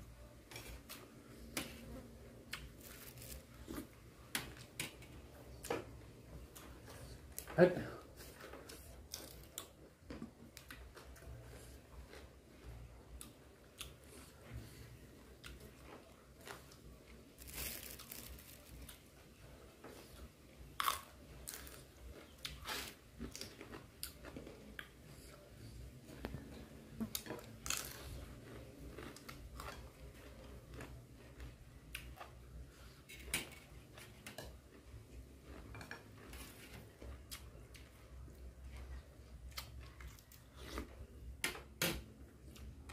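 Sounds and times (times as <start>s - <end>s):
person chewing and crunching food: 0.2s - 41.4s.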